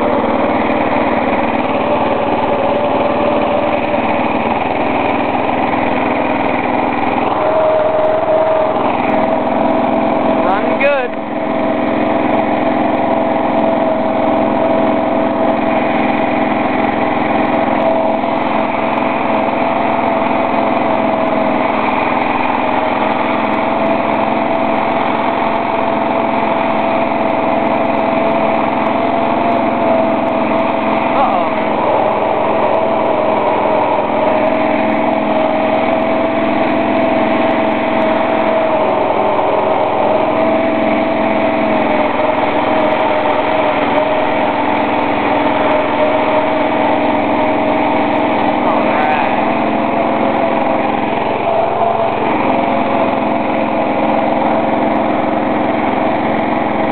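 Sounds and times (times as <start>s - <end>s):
lawn tractor engine running: 0.0s - 56.9s.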